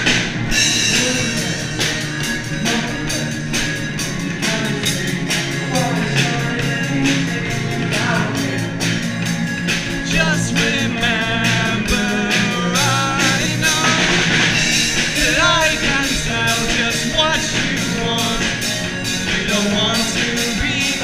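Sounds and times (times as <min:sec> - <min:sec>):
pop-rock band playing: 0:00.0 - 0:21.0
man singing: 0:00.7 - 0:09.2, 0:09.9 - 0:21.0.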